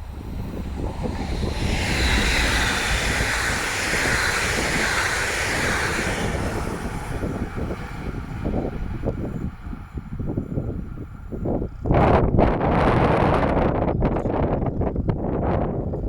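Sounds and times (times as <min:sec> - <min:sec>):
train passing at speed: 0:00.0 - 0:13.8
low rumble: 0:00.0 - 0:13.9
wheels rushing on rail: 0:00.0 - 0:14.9.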